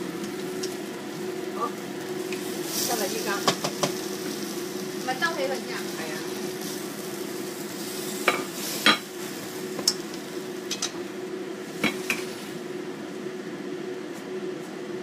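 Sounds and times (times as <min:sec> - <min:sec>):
meat sizzling in a frying pan: 0:00.0 - 0:13.3
steady hum: 0:00.0 - 0:15.0.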